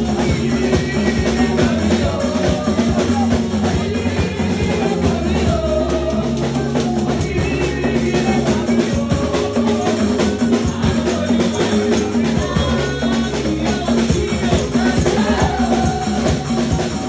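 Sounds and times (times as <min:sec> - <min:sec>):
drum kit beating: 0:00.0 - 0:17.0
held bass and chord notes: 0:00.0 - 0:17.0.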